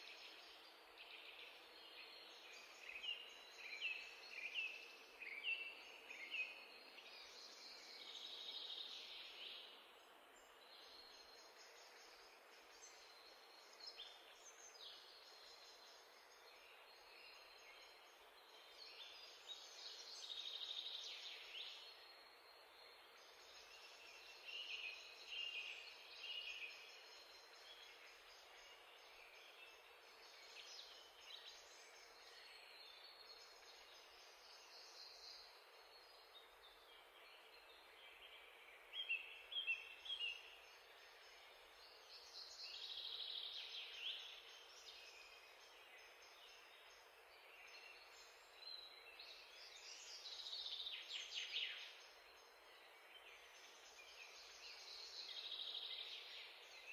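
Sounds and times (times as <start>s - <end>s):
faint steady hiss: 0.0s - 56.9s.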